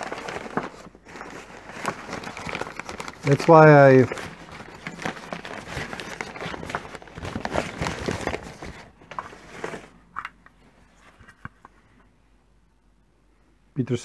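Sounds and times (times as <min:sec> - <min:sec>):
packing paper rustling: 0:00.0 - 0:11.5.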